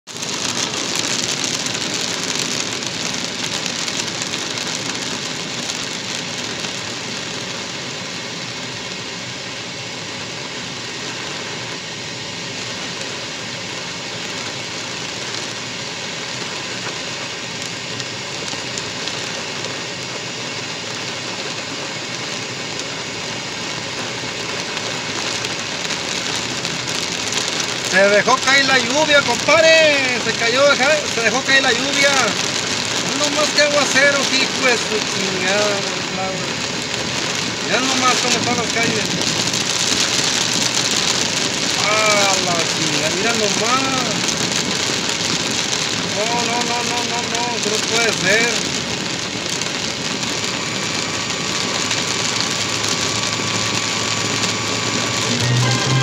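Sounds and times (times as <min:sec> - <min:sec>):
heavy rain on car roof: 0:00.0 - 0:56.0
tyres hissing on wet road: 0:00.1 - 0:56.0.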